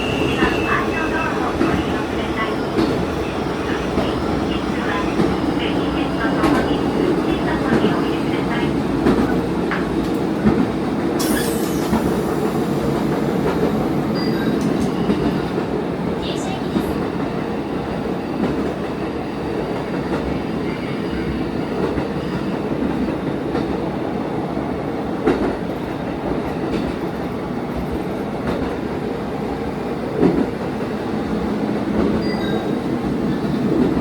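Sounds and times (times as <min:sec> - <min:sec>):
railcar engine drone: 0:00.0 - 0:34.0.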